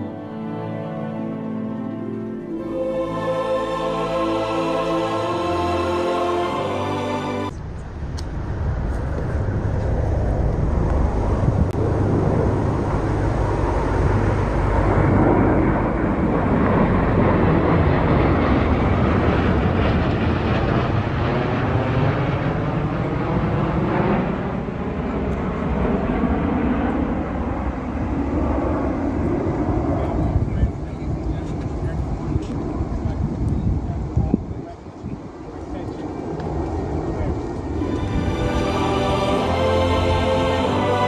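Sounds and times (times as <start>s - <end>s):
aircraft engine rumble overhead: 0.0s - 41.0s.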